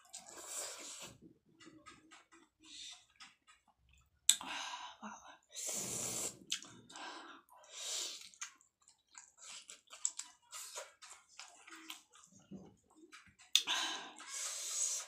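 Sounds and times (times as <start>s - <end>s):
person chewing food: 0.0s - 4.4s, 6.0s - 15.0s.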